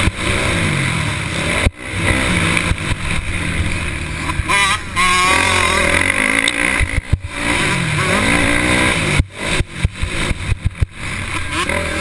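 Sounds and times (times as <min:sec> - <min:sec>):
motocross bike engine racing: 0:00.0 - 0:12.0.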